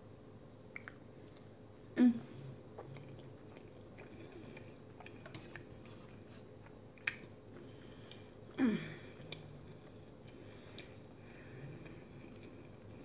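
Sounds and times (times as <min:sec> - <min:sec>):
quiet chewing: 0:02.3 - 0:13.0.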